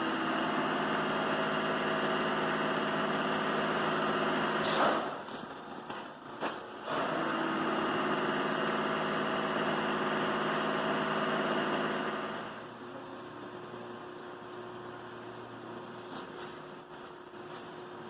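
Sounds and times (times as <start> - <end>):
boring machine humming and whining: 0.0 - 18.0.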